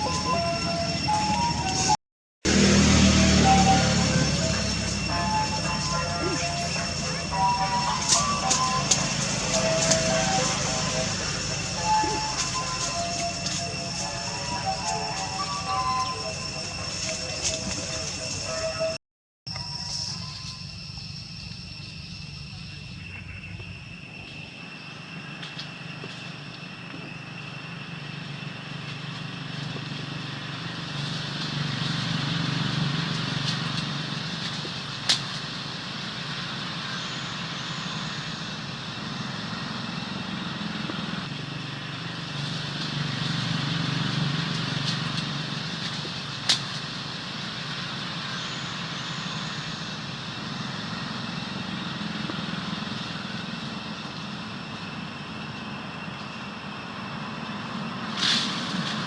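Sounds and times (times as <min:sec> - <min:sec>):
vehicles passing: 0:00.0 - 0:19.0, 0:24.6 - 0:59.0
constant high whine: 0:00.0 - 0:59.0.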